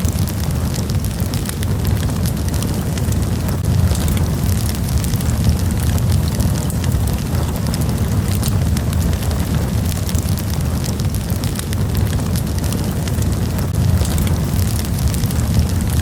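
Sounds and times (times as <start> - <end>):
campfire crackling and popping: 0.0 - 16.0
low roar of flames: 0.0 - 16.0.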